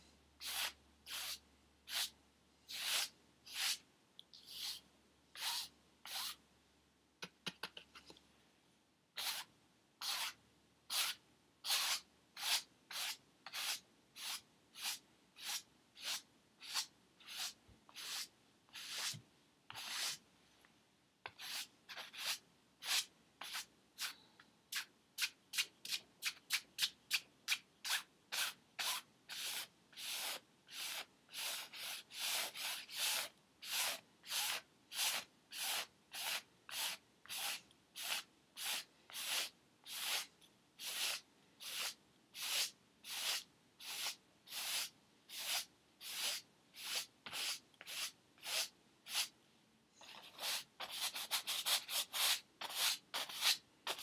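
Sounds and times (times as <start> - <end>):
paintbrush scrubbing canvas: 0.4 - 2.1, 2.7 - 3.8, 5.4 - 6.4, 9.2 - 20.2, 21.3 - 49.3, 50.1 - 54.0.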